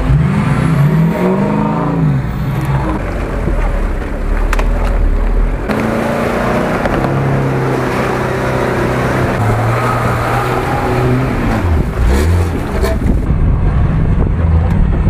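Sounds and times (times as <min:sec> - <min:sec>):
off-road engines under load: 0:00.0 - 0:15.0.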